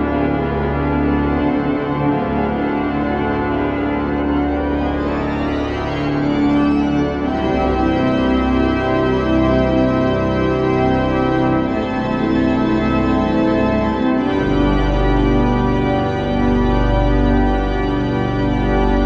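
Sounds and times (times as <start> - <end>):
pipe organ chords: 0.0 - 19.0.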